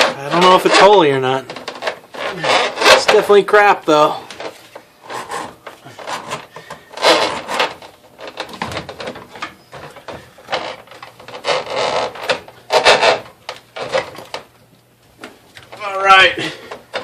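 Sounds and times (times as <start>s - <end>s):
hand scraping plumbing: 0.0s - 17.0s.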